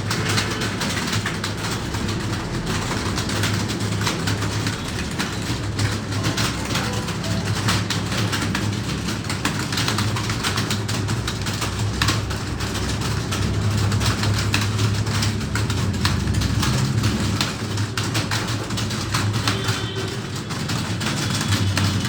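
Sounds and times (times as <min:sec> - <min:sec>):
computer keyboards clattering: 0:00.0 - 0:22.0.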